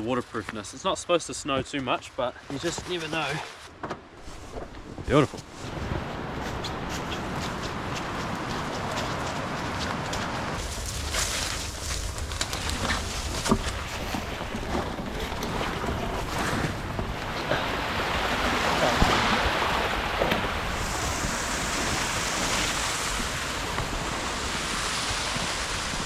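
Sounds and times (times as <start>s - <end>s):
wind rushing over microphone: 4.5s - 26.0s.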